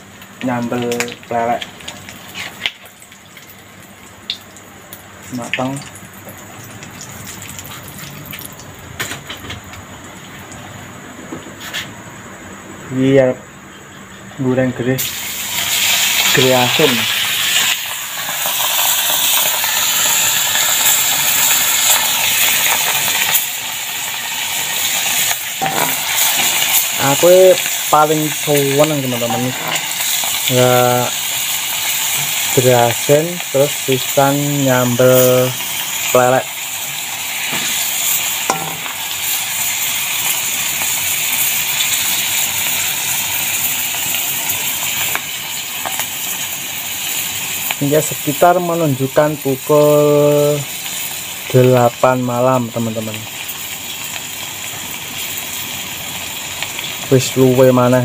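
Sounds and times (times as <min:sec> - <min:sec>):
fish deep-frying in oil: 0:00.0 - 0:11.0, 0:15.0 - 0:58.0.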